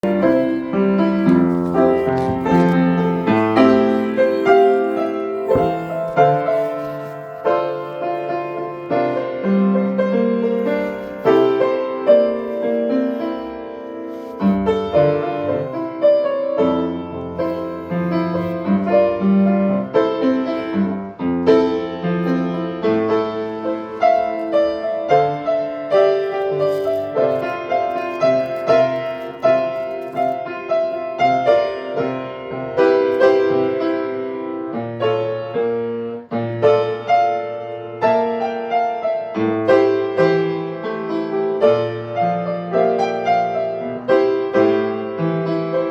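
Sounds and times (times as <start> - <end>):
piano chords and melody: 0.0 - 45.9.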